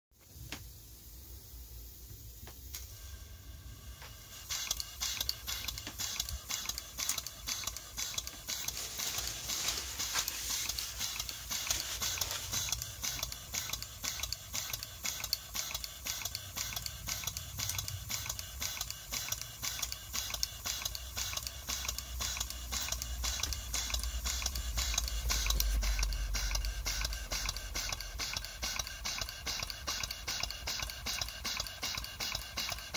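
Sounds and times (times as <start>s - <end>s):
steam engine exhaust puffs: 0.2s - 32.9s.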